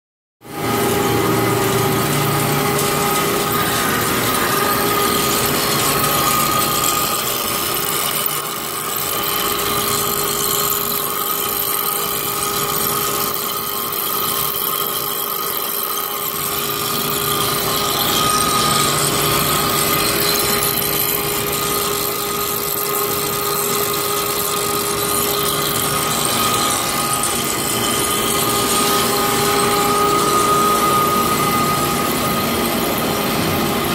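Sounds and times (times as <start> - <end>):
lathe whine: 0.4 - 33.9.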